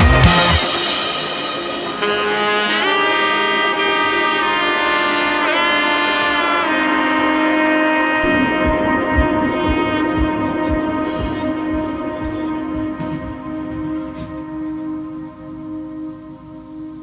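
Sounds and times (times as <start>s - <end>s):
background music with held notes: 0.0s - 17.0s.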